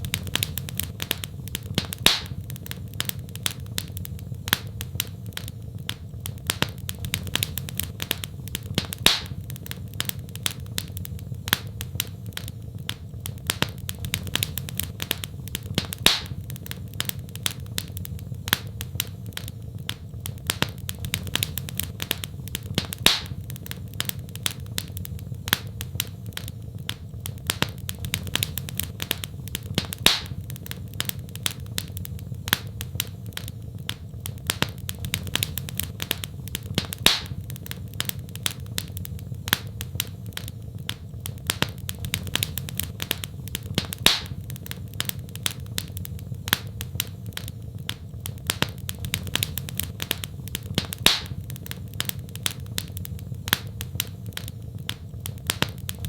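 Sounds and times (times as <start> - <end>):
loud snap of fire: 0.0 - 56.0
low steady rumble: 0.0 - 56.0
wood fire crackling: 0.0 - 56.0.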